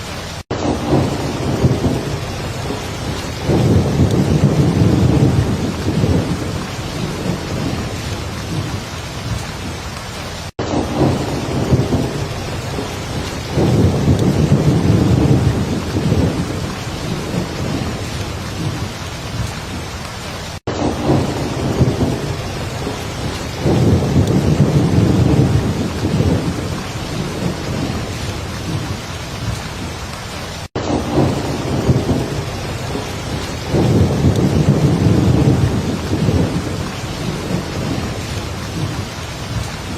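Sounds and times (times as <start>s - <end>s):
thunder rolling: 0.0s - 9.7s, 10.6s - 19.8s, 20.6s - 29.9s, 30.7s - 39.9s
heavy rain pouring: 0.0s - 39.9s.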